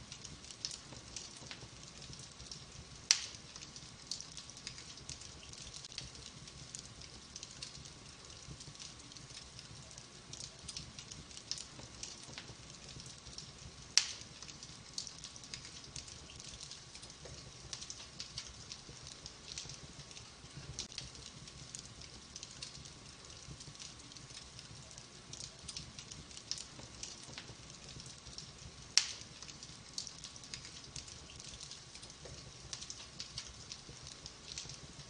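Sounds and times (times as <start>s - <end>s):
wood fire crackling: 0.0s - 35.0s
loud fire pops: 0.2s - 6.8s, 10.4s - 24.0s, 25.4s - 35.0s.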